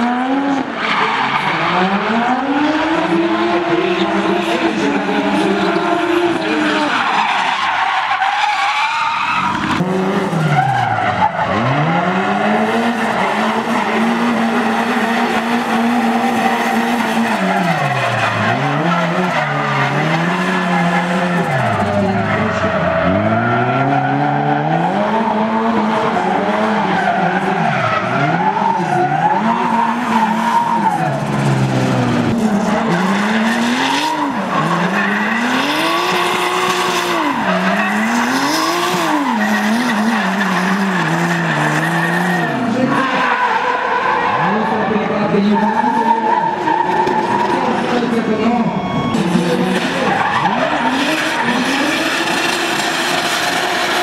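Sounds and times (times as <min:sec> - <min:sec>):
car engines revving: 0:00.0 - 0:54.0
tyres squealing and skidding: 0:00.0 - 0:54.0.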